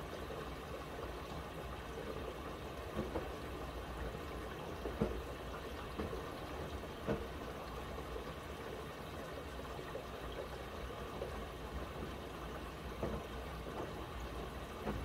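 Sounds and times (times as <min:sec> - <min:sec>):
water sloshing in washing machine: 0:00.0 - 0:15.0.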